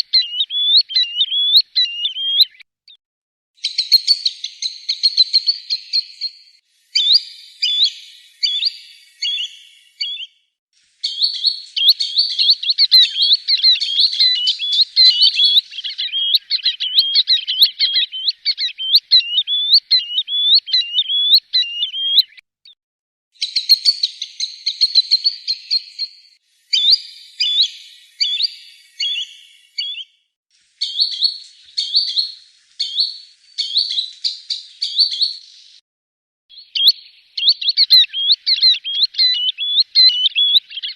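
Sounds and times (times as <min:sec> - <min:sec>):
bird whistling calls: 0:00.0 - 0:02.6, 0:03.6 - 0:10.4, 0:11.0 - 0:22.4, 0:23.4 - 0:30.1, 0:30.8 - 0:35.7, 0:36.5 - 0:40.9.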